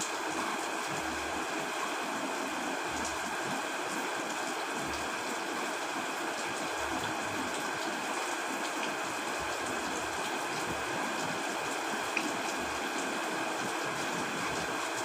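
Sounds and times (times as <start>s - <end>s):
heavy rain: 0.0s - 15.0s
rain drops ticking: 0.0s - 15.0s.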